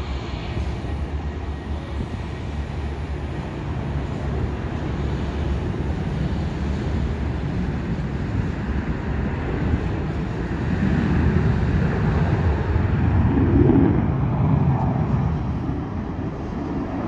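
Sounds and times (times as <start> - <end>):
distant jet engine roar: 0.0 - 17.0.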